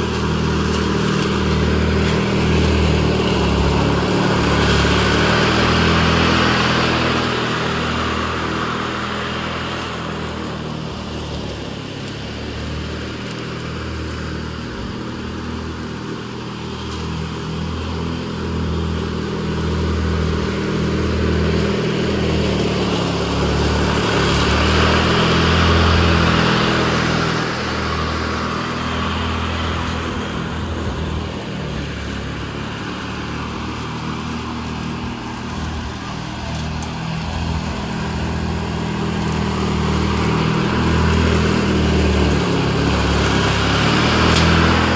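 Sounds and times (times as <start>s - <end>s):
ride-on lawn mower engine: 0.0s - 44.9s.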